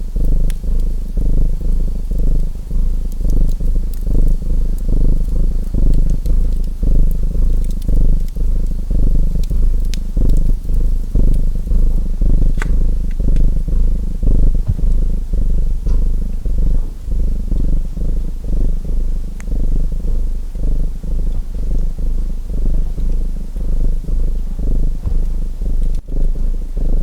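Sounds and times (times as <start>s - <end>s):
cat purring loudly: 0.0s - 27.0s
wood fire crackling: 0.0s - 27.0s.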